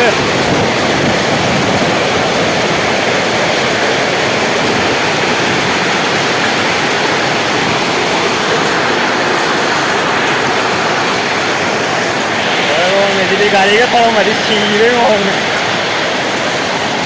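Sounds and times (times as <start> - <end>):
heavy hail clattering: 0.0 - 17.0.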